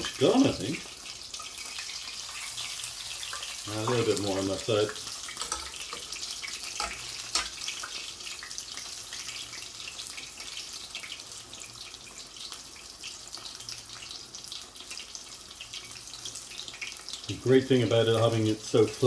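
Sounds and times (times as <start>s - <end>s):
chicken sizzling in frying pan: 0.0s - 19.0s.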